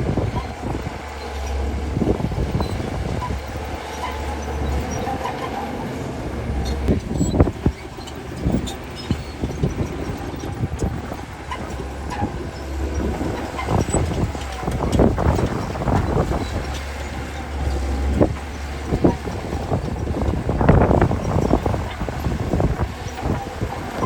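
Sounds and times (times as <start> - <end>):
diesel machinery rumbling: 0.0 - 24.0.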